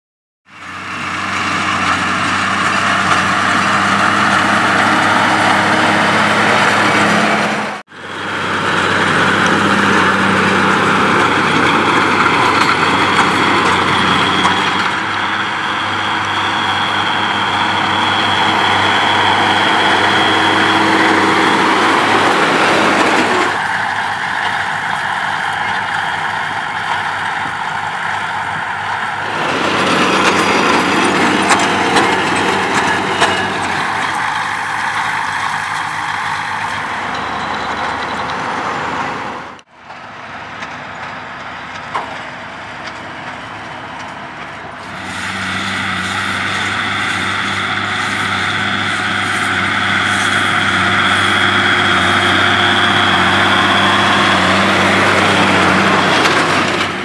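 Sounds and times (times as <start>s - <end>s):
tractor diesel engine under load: 0.4s - 57.0s
baler machinery working: 0.5s - 57.0s.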